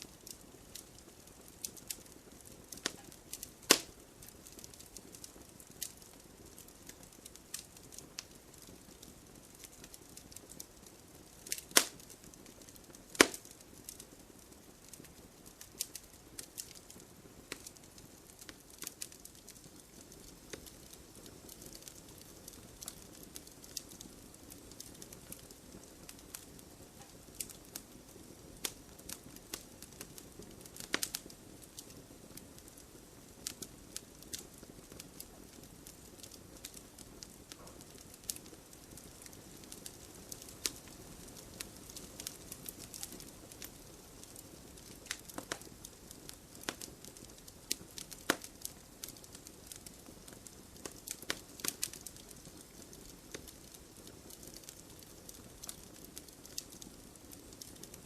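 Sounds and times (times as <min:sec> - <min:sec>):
fire crackles and pops: 0:00.0 - 0:58.0
wood fire hissing: 0:00.0 - 0:58.0.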